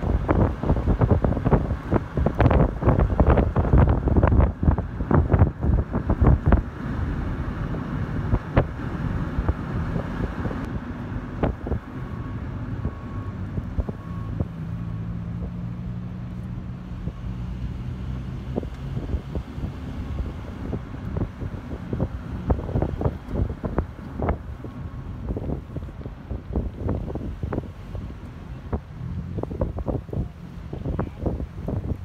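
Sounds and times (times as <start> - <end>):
car road noise: 0.0 - 32.0
wind buffeting microphone: 0.0 - 32.0.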